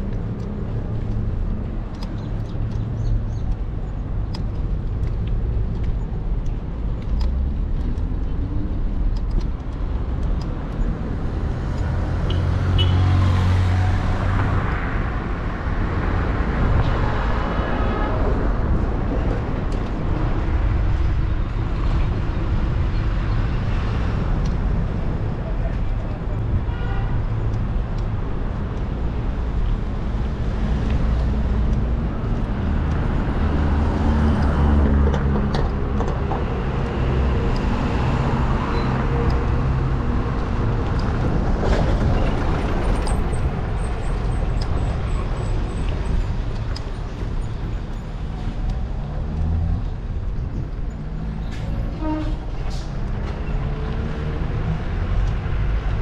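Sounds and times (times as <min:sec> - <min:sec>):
cars passing: 0:00.0 - 0:56.0
wind rumble on microphone: 0:00.0 - 0:56.0.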